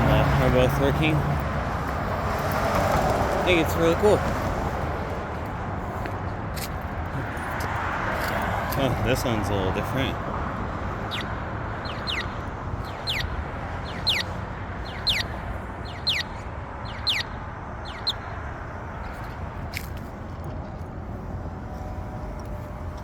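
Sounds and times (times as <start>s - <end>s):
crosswalk signal chirps: 0.0s - 23.0s
traffic rumble: 0.0s - 23.0s.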